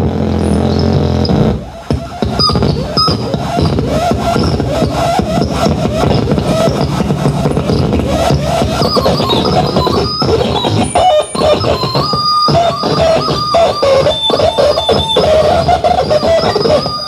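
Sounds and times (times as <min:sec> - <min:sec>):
crackling scraping electronic noise: 0:00.0 - 0:17.0
wavering held tones and squeals: 0:00.2 - 0:17.0.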